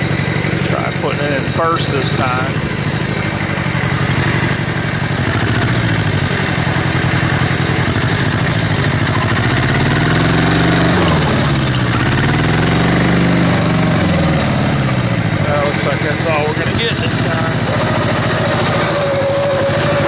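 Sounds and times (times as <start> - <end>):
diesel tractor engine running: 0.0 - 20.0
loader scooping dirt: 0.0 - 20.0.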